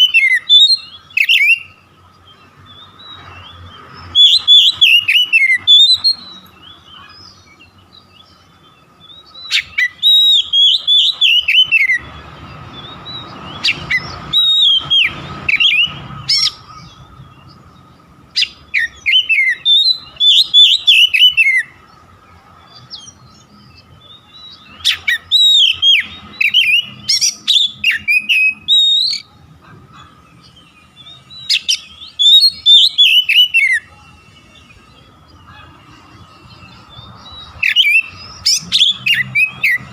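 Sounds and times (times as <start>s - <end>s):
bird singing whistled notes: 0.0s - 29.4s, 30.2s - 39.9s.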